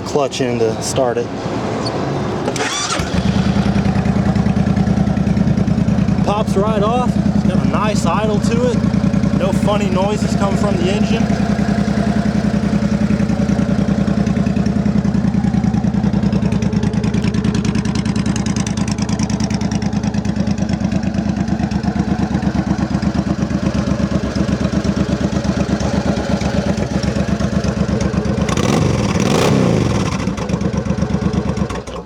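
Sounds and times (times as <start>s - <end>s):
motorcycle engine idling: 2.5s - 32.0s.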